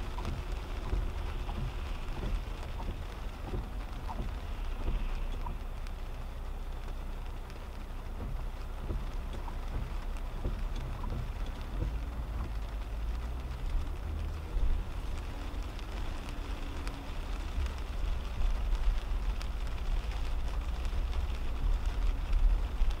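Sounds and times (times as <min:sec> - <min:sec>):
car and tyre rumble: 0:00.0 - 0:23.0
hiss of spray and rain: 0:00.0 - 0:23.0
raindrops ticking on windshield: 0:00.0 - 0:23.0.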